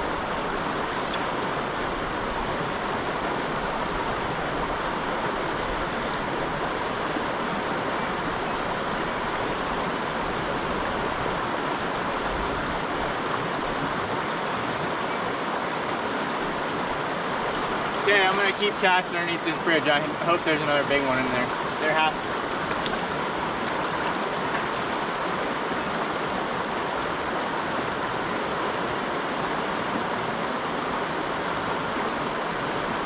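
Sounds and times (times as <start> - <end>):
creek water running: 0.0 - 33.0.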